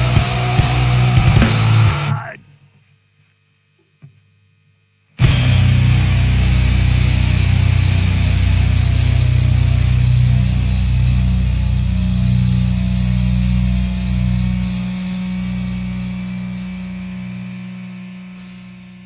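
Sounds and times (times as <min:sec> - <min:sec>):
distorted electric guitar chord: 0:00.0 - 0:02.4, 0:05.2 - 0:19.0.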